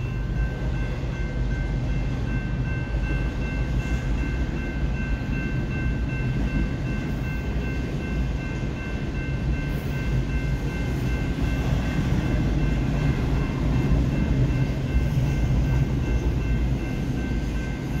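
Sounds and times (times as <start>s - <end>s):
freight train wheels rumbling on rails: 0.0s - 18.0s
steady high-pitched tone: 0.0s - 18.0s.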